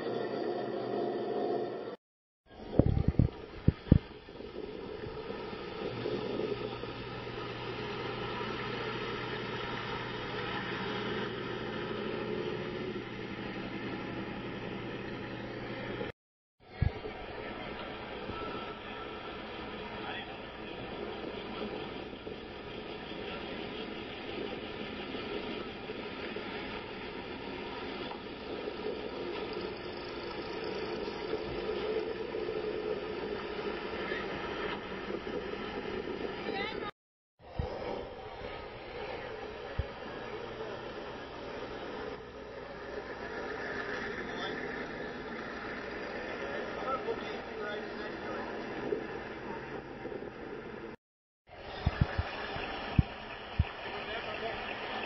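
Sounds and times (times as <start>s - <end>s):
constant rushing noise: 0.0s - 55.0s
outdoor noise: 0.0s - 55.0s.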